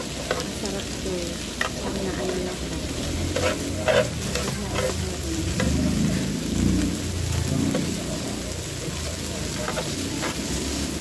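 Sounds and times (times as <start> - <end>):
meat sizzling on grill: 0.0 - 11.0.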